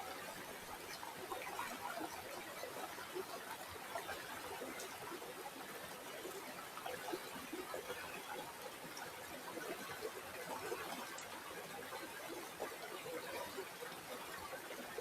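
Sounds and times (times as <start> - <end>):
water trickling in a stream: 0.0 - 15.0.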